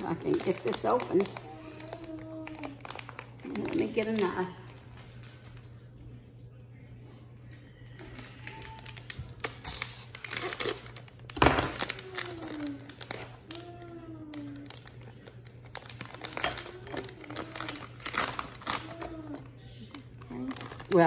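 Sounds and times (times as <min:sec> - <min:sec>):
plastic pouch crinkling: 0:00.0 - 0:05.6, 0:08.0 - 0:21.0.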